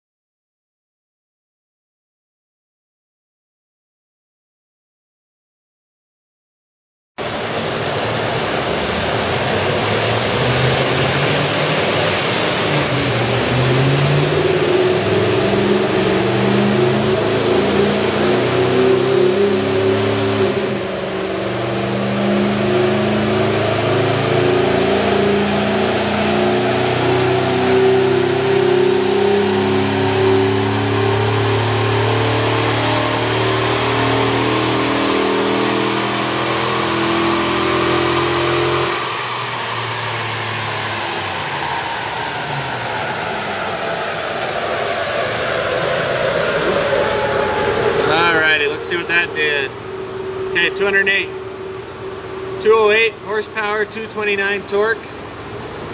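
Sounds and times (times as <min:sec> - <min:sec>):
engine working under load: 0:07.2 - 0:55.9.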